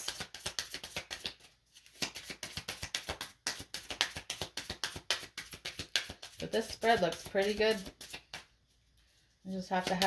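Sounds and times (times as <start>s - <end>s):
cards being shuffled by hand: 0.0s - 10.0s.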